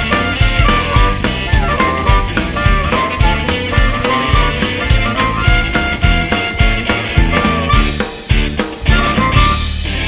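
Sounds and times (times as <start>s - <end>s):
amplified harmonica: 0.0s - 10.0s
live blues band: 0.0s - 10.0s.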